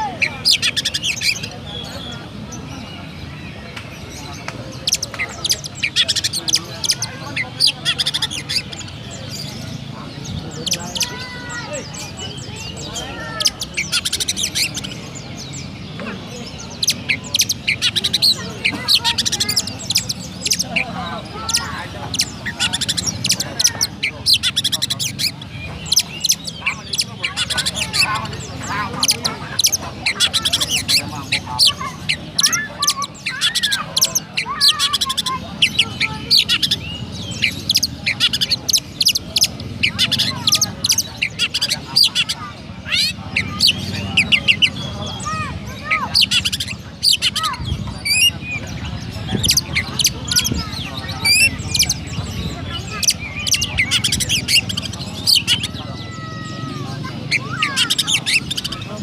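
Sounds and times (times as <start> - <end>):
bird rapid high chirping: 0.0 - 59.0.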